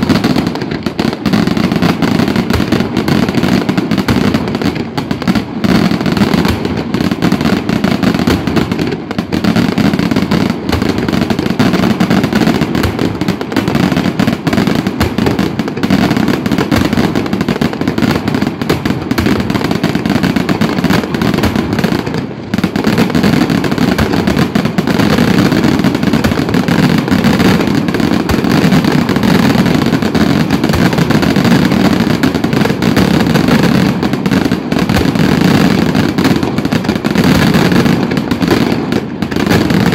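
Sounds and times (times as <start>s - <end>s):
fireworks bursts and bangs: 0.0s - 39.9s.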